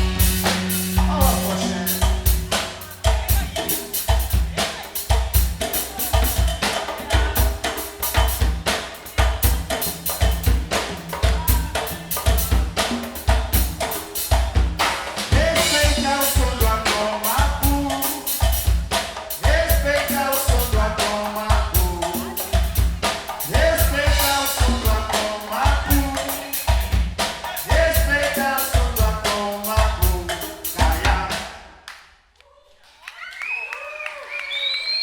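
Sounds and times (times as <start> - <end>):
drum kit beat: 0.0 - 31.8.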